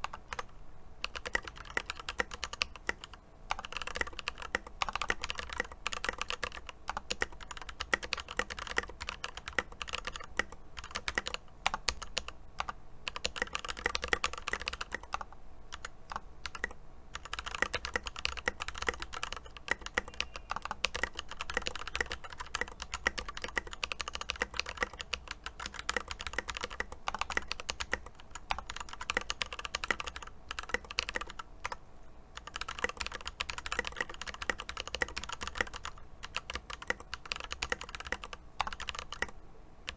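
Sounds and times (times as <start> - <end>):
mechanical keyboard typing: 0.0 - 31.8, 32.4 - 39.9.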